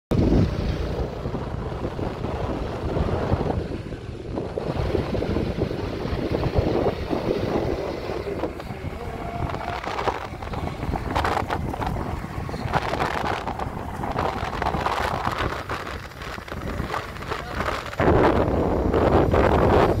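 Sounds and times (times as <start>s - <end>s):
wind buffeting microphone: 0.1s - 20.0s.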